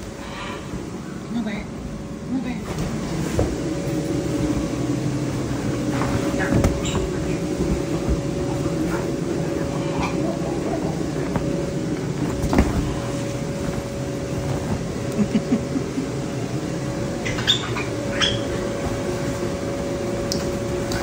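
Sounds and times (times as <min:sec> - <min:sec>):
blower fan humming: 0:00.0 - 0:21.0.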